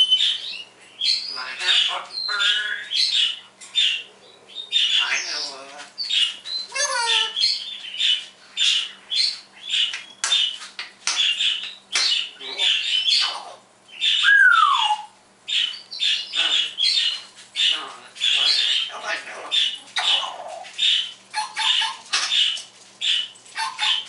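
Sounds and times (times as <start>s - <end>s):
parrot squawking and chirping: 0.0s - 24.0s.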